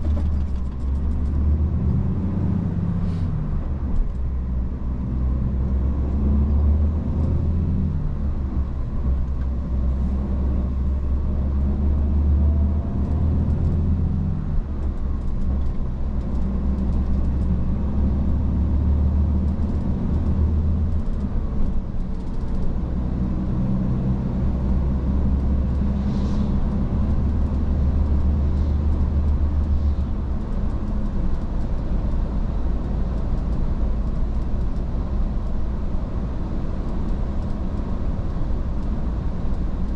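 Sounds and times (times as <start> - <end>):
truck diesel engine droning: 0.0 - 39.8.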